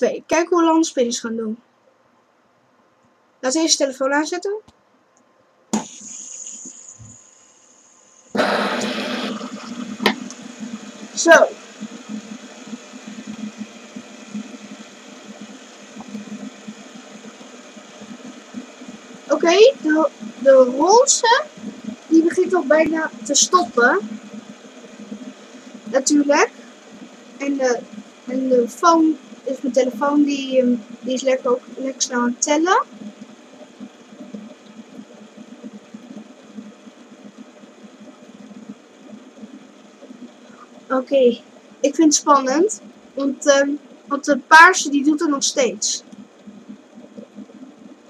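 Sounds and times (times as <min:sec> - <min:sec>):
fidget spinners whirring: 0:05.8 - 0:48.0.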